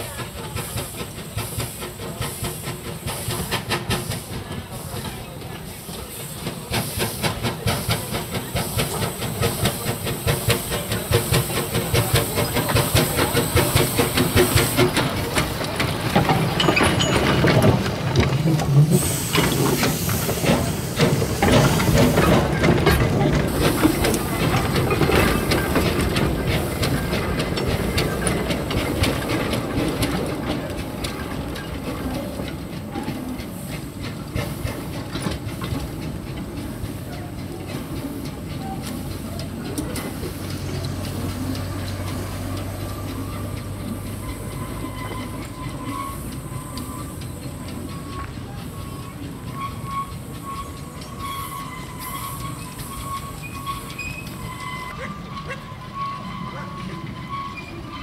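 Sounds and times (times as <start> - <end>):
steam hissing: 0.0 - 58.0
steam locomotive exhaust chuffs: 0.0 - 58.0
wheels clicking over rail joints: 0.0 - 58.0.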